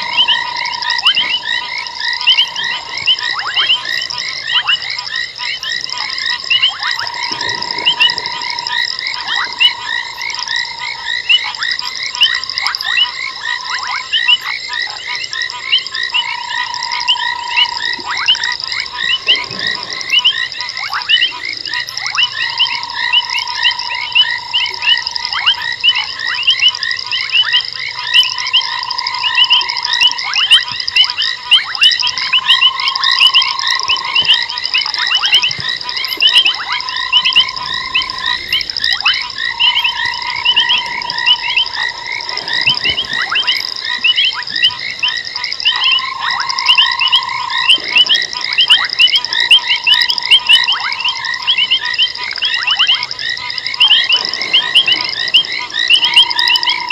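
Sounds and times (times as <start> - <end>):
chorus of frogs calling: 0.0 - 56.9
low frog trill: 0.0 - 56.9.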